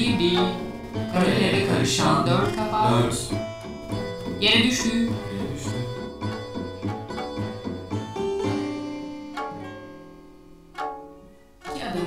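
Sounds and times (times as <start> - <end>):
keyboard instrument music: 0.0 - 12.0.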